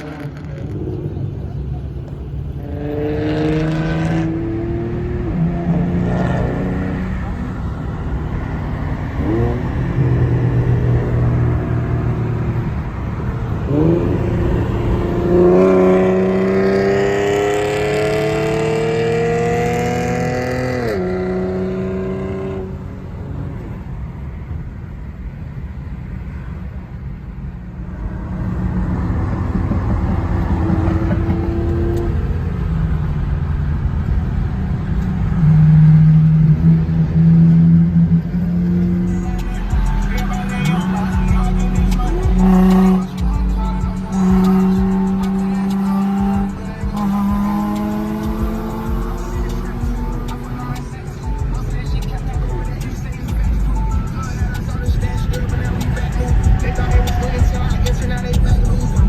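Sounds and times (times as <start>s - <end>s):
car accelerating: 0.0s - 24.6s, 27.5s - 59.0s
car engines running: 0.0s - 59.0s.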